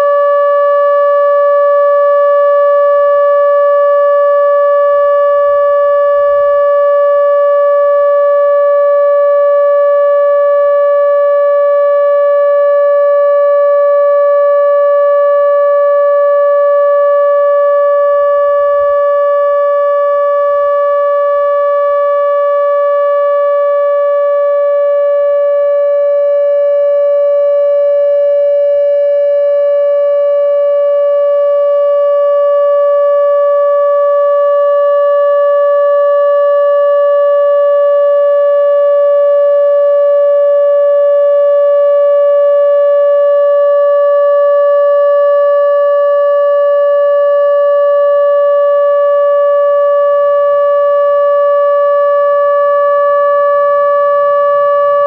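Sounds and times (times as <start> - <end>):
loud steady warning siren: 0.0 - 55.0.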